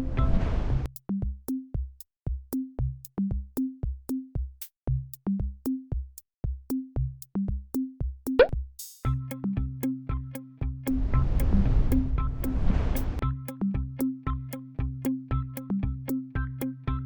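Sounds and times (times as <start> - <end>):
drum-machine beat: 0.9 - 15.7.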